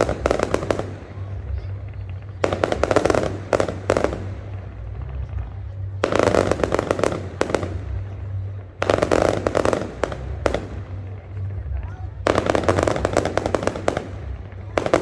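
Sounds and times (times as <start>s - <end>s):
fireworks crackling pops: 0.0s - 15.0s
low rumble: 0.0s - 15.0s.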